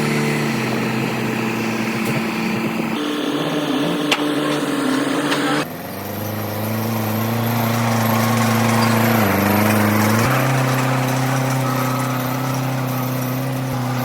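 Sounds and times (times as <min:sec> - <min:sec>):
machine engine running: 0:00.0 - 0:14.0.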